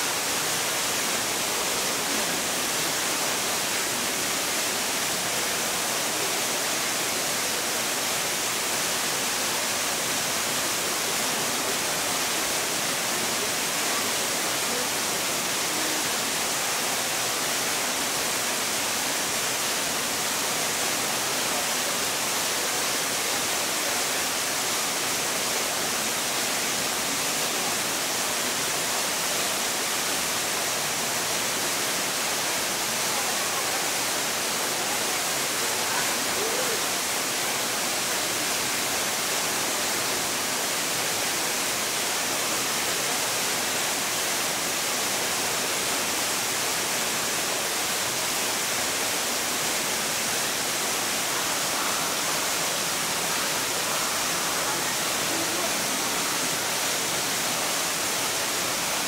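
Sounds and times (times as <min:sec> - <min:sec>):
rush of falling water: 0:00.0 - 0:59.0.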